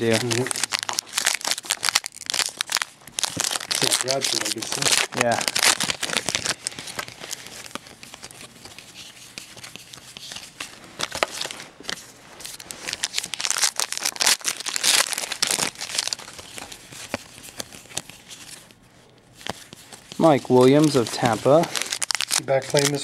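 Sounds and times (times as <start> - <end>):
foil wrapper crinkling and tearing: 0.0 - 11.7, 12.4 - 18.8, 19.4 - 23.0.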